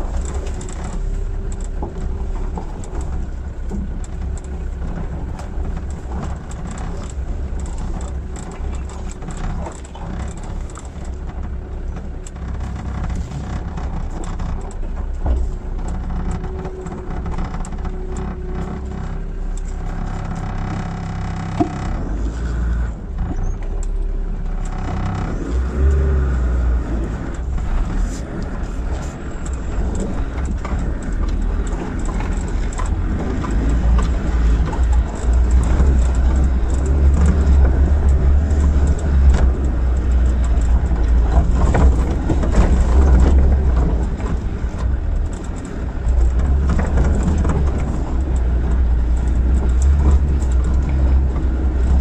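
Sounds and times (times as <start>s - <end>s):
body knocks and rattles: 0.0s - 22.5s, 23.1s - 52.0s
diesel engine running: 0.0s - 52.0s.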